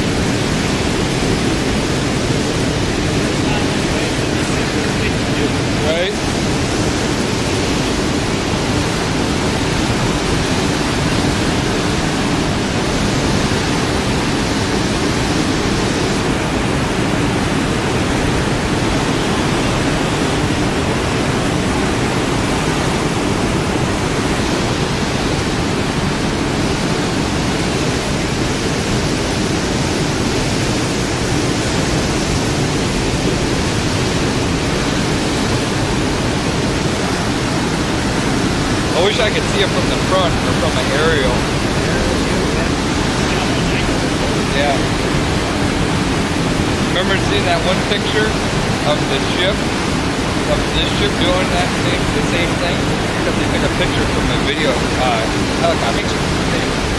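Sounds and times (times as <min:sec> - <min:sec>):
rushing ship wake: 0:00.0 - 0:56.9
wind on microphone: 0:00.0 - 0:56.9.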